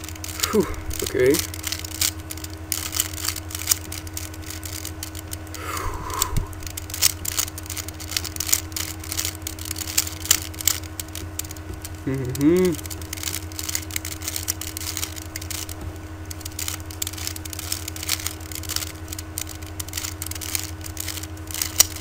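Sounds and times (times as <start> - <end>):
speed cube clicking and rattling: 0.0 - 22.0
steady low hum: 0.0 - 22.0.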